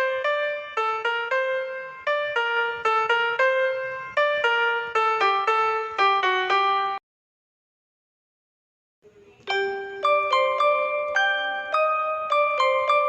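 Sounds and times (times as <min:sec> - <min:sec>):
piano melody: 0:00.0 - 0:07.0, 0:09.5 - 0:13.0.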